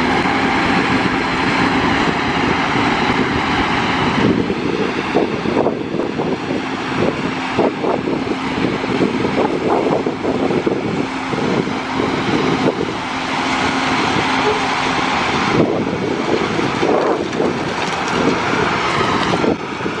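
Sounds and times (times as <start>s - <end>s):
harvest machinery humming: 0.0s - 20.0s.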